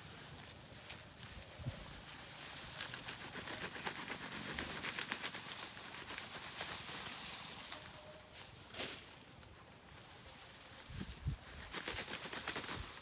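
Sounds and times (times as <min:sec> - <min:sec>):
leaves and stems rustling: 0:00.0 - 0:13.0.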